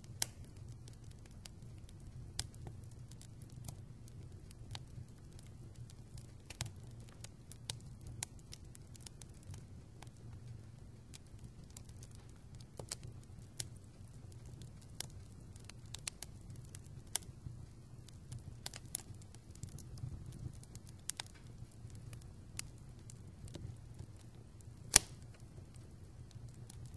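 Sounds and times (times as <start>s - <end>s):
low rumble of flames: 0.0s - 26.9s
wood fire popping and crackling: 0.0s - 26.9s.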